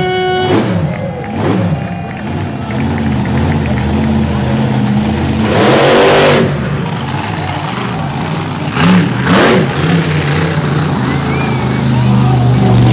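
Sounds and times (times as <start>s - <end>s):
monster truck engine revving: 0.0s - 12.9s.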